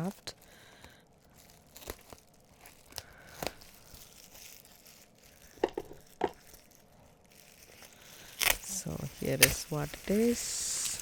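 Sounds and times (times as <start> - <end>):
parcel packaging tearing and crinkling: 0.1 - 11.0.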